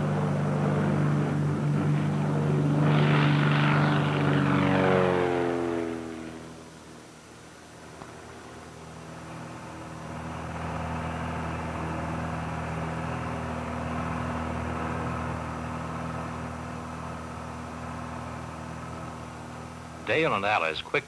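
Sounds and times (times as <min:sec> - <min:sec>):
light airplane engine droning: 0:00.0 - 0:21.0.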